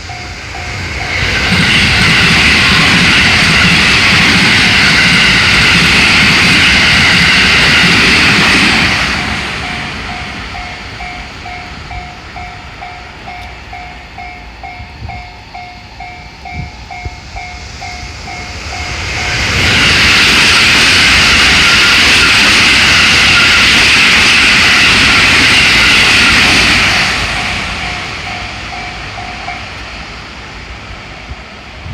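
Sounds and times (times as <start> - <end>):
railroad crossing bell ringing: 0.0 - 31.4
train wheels rushing on rails: 0.0 - 31.9.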